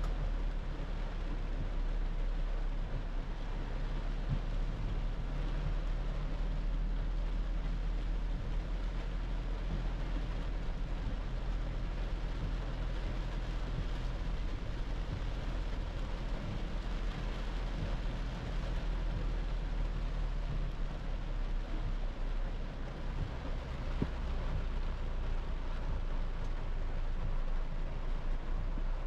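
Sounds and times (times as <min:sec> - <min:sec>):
engine and road noise: 0:00.0 - 0:29.0
rain hissing on windscreen: 0:00.0 - 0:29.0.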